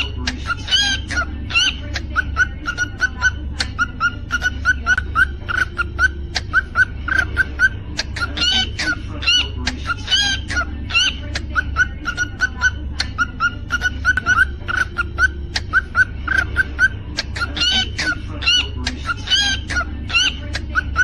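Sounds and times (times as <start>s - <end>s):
cockatiel chirping: 0.0s - 21.0s
steady low hum: 0.0s - 21.0s.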